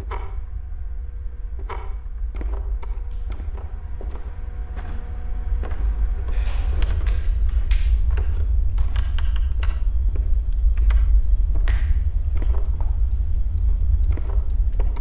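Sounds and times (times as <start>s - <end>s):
knocks and creaks: 0.0s - 15.0s
low rumble: 0.0s - 15.0s.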